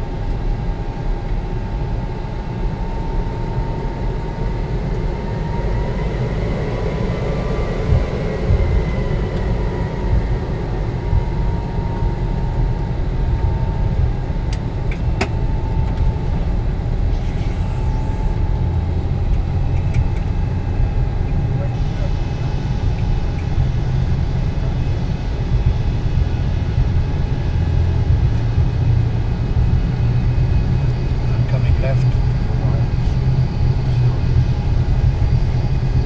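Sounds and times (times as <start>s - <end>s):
jet engines rumbling: 0.0s - 36.0s.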